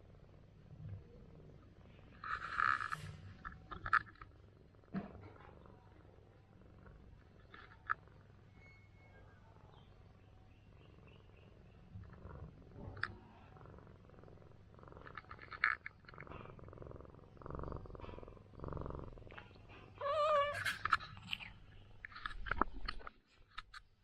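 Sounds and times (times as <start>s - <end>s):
cat purring: 0.0s - 23.2s.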